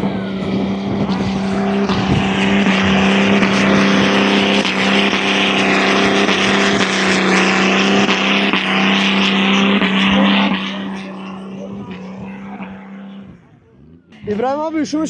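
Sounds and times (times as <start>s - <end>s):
loud rushing noise: 0.0s - 13.5s
engine at high revs: 0.0s - 15.0s.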